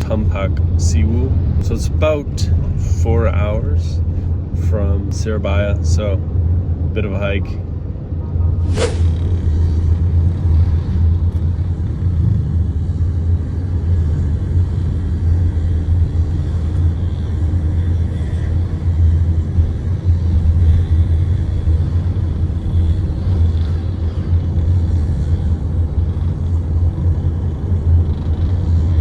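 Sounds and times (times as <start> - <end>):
car engine rumble: 0.0 - 29.0
road noise: 0.0 - 29.0.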